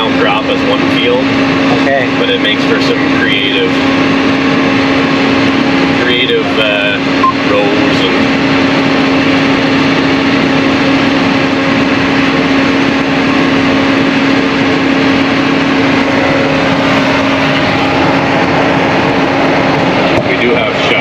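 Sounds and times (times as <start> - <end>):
sprayer engine running: 0.0 - 21.0.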